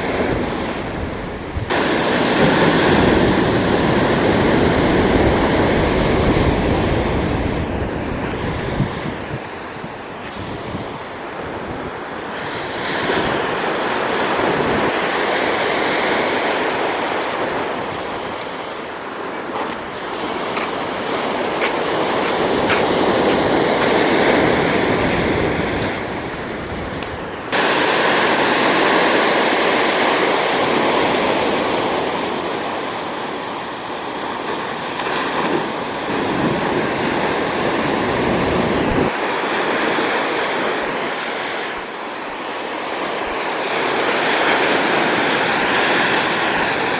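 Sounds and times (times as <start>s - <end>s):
ocean waves surging: 0.0s - 46.9s
wind buffeting microphone: 0.0s - 46.9s.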